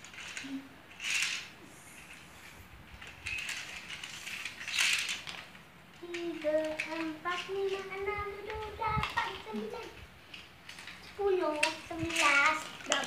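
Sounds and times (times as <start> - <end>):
plastic toys rattling: 0.0 - 13.0.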